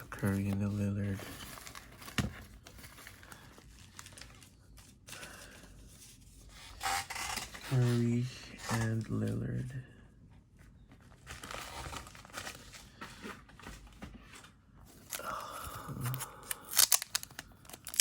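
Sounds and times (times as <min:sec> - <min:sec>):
cards and packaging crinkling: 0:00.0 - 0:09.7, 0:10.9 - 0:18.0.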